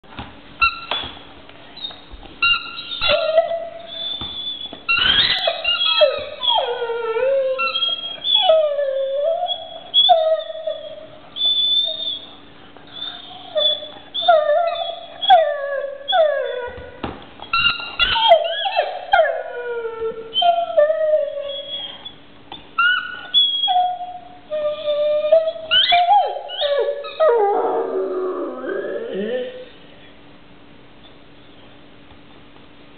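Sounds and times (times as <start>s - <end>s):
dog howling and whining: 2.4s - 22.2s, 22.8s - 29.8s.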